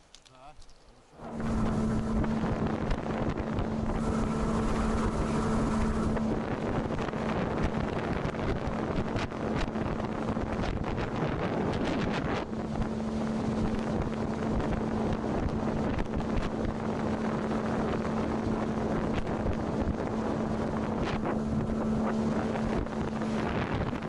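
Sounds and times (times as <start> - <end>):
outboard motor running: 1.1 - 24.0
wind buffeting microphone: 1.2 - 24.0.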